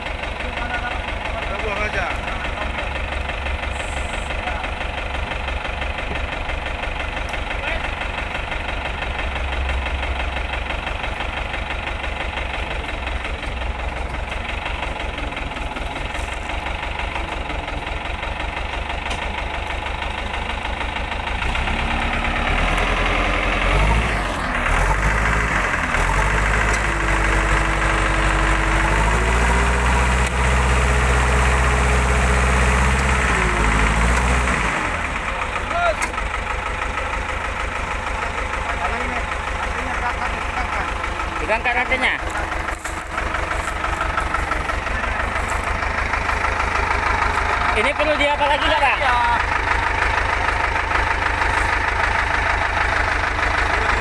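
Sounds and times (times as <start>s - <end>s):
diesel engine running and revving: 0.0s - 54.0s.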